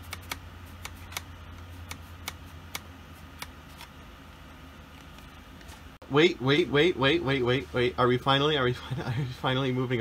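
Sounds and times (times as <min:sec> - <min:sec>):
laptop cooling fan humming: 0:00.0 - 0:10.0.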